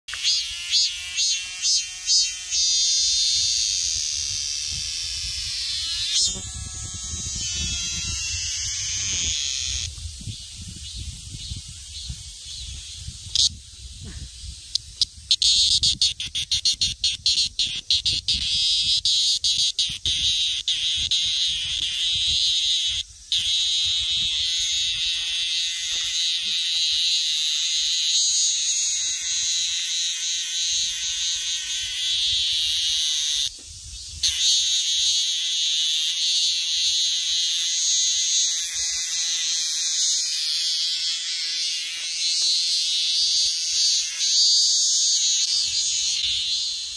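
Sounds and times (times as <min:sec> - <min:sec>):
cicada buzzing: 0:00.1 - 0:46.9.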